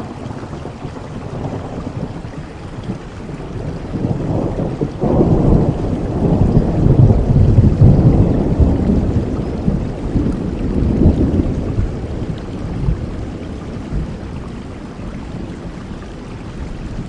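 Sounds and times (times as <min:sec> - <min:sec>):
thunder rolling: 0:00.0 - 0:14.3
steady rain: 0:00.0 - 0:17.0.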